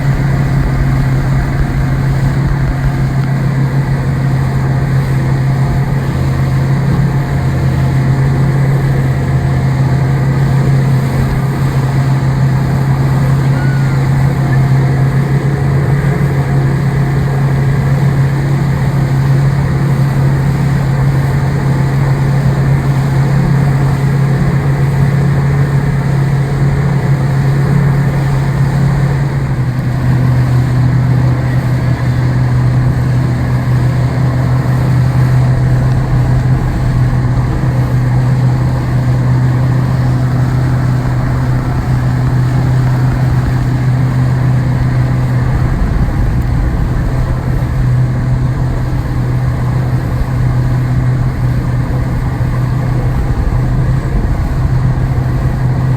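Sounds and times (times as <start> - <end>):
engine droning: 0.0 - 55.9.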